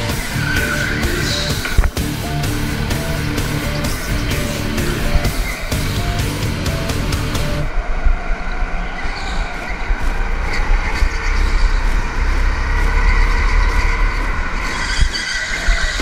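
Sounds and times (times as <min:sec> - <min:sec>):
go-kart engine drone: 0:00.0 - 0:16.0.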